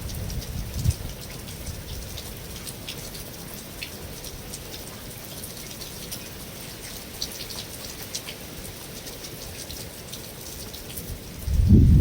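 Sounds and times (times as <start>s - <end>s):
rain on a metal roof: 0.0s - 12.0s.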